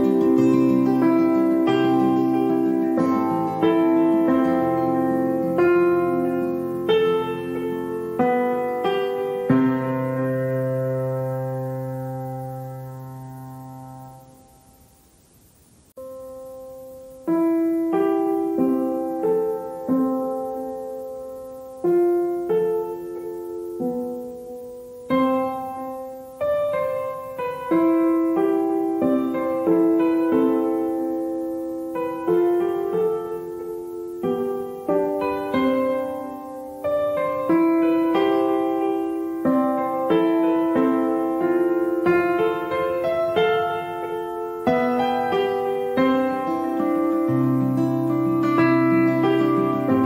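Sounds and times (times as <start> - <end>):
slow piano music: 0.0 - 15.0, 15.9 - 50.0.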